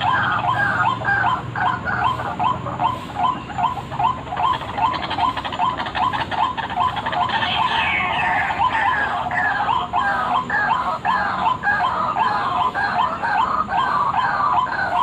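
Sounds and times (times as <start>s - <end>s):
bird repeated call notes: 0.0s - 15.0s.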